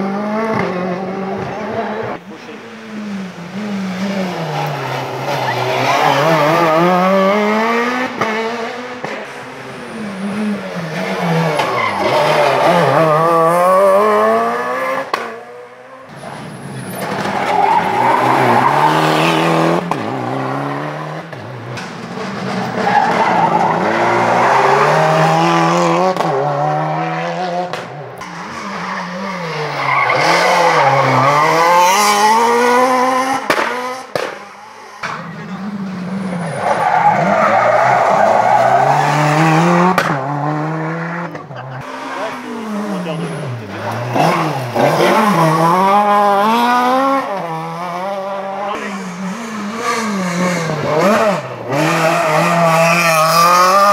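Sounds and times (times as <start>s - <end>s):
rally car engines braking and accelerating: 0.0s - 53.9s.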